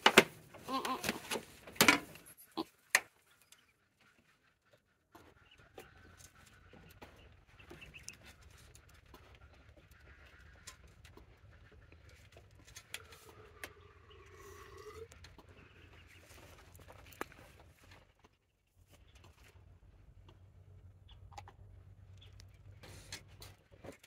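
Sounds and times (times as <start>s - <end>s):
drawn-out farm animal call: 0.0s - 24.0s.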